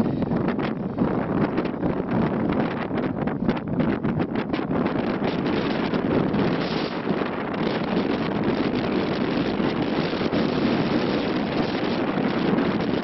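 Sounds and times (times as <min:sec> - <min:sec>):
boat running through water: 0:00.0 - 0:13.0
wind buffeting microphone: 0:00.0 - 0:13.0.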